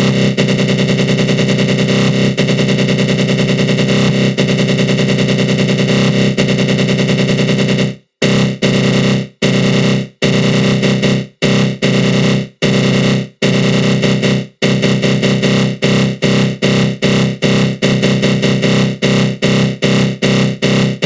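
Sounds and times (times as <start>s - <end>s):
fluttering synth buzz: 0.0s - 21.0s.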